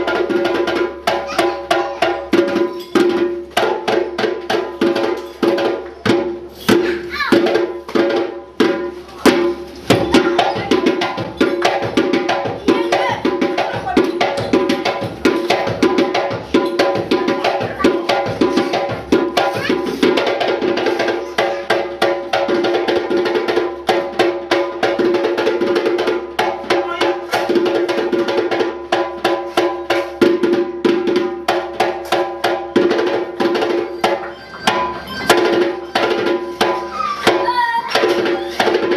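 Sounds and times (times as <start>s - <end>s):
fast drumming music: 0.0s - 38.9s.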